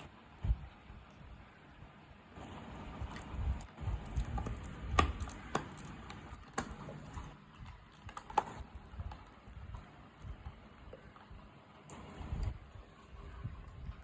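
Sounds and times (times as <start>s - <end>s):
dog chewing and crunching: 0.0s - 14.0s.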